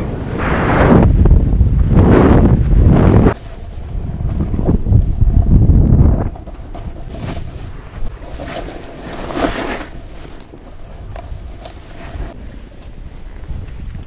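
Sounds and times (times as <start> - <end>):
snowboard swishing through snow: 0.0 - 4.7, 7.0 - 13.8
low wind rumble on microphone: 0.0 - 14.0.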